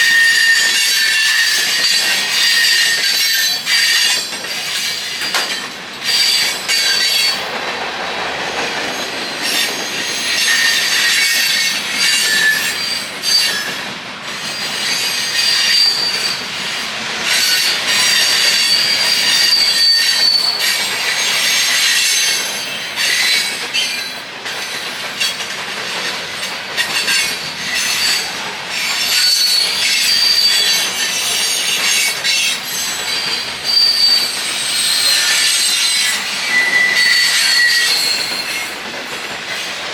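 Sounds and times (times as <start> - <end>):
train wheels squealing: 0.0 - 7.6, 8.5 - 39.9
freight train rumbling: 0.0 - 39.9
wheels clicking on rail joints: 0.0 - 39.9.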